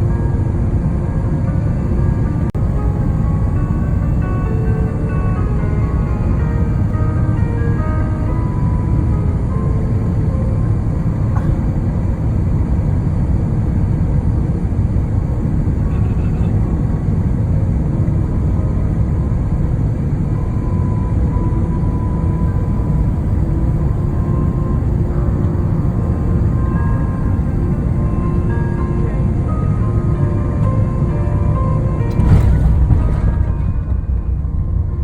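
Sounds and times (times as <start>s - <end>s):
airliner cabin low rumble: 0.0s - 35.0s.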